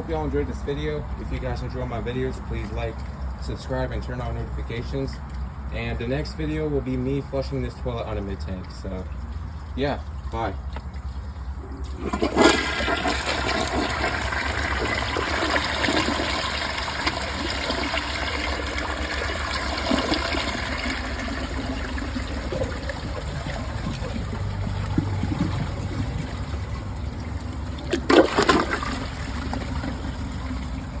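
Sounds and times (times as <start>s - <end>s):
toilet water running and trickling: 0.0s - 31.0s.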